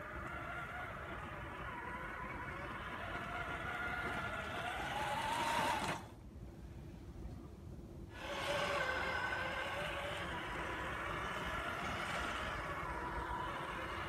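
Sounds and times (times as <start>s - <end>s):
electric motor whine: 0.0s - 6.2s, 8.1s - 14.0s.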